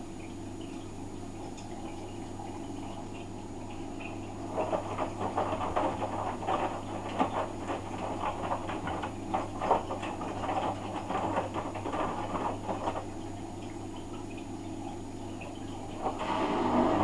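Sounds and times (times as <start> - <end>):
washing machine hum: 0.0 - 17.0
water sloshing in washing machine: 0.0 - 17.0.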